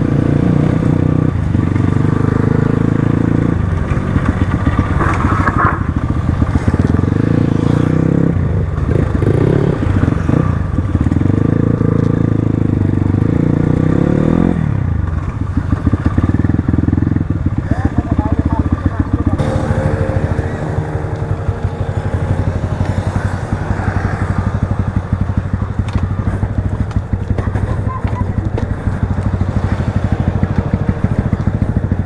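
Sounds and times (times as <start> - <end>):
dirt bike engine running: 0.0 - 32.0.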